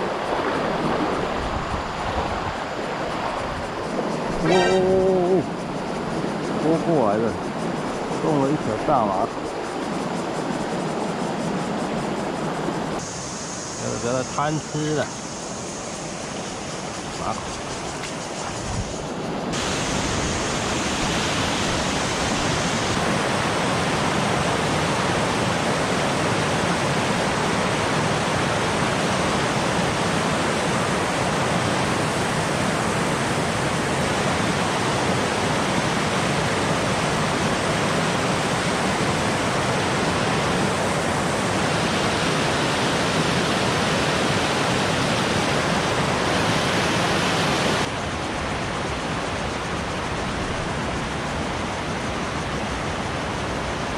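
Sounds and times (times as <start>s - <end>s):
water rushing over weir: 0.0s - 9.8s, 12.6s - 53.9s.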